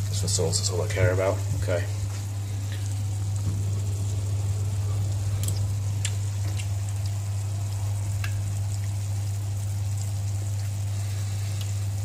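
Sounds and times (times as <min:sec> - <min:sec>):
steady low hum: 0:00.0 - 0:12.0
sauce simmering and sizzling: 0:00.8 - 0:12.0.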